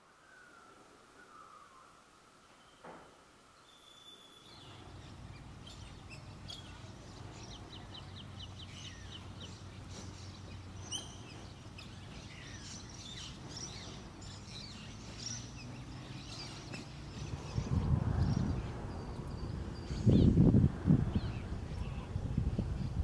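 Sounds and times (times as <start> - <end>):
birds chirping: 0.2 - 23.0.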